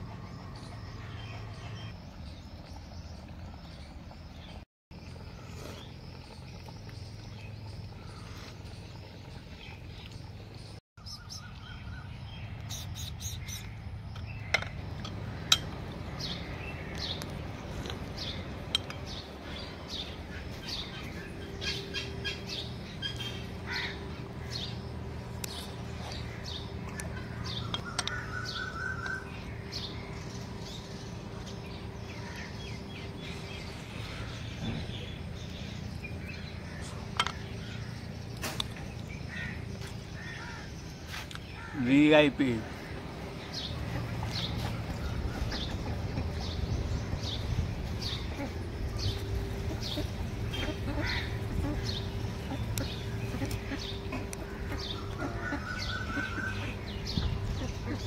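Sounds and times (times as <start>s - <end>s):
birds chirping: 0.0s - 58.0s
low steady hum: 0.0s - 58.0s.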